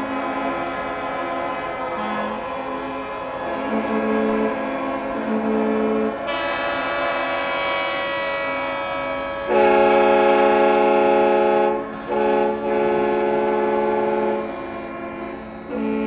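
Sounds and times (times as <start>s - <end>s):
horns blaring in a chord: 0.0s - 16.0s.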